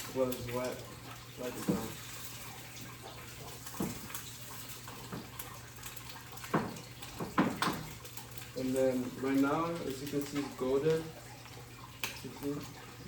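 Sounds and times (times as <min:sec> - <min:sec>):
egg sizzling in a pan: 0:00.0 - 0:13.0.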